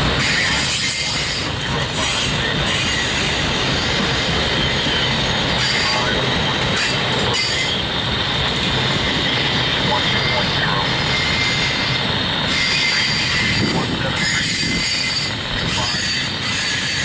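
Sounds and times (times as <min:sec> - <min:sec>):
steel wheels rolling on rail: 0:00.0 - 0:17.0.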